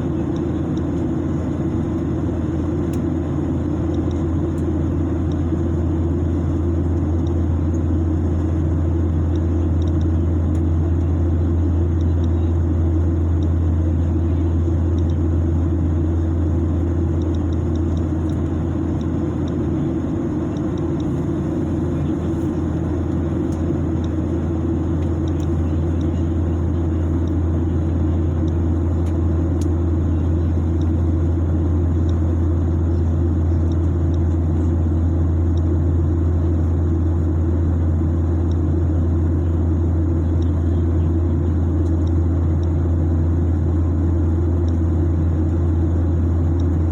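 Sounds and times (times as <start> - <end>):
aircraft cabin rumble: 0.0 - 46.9.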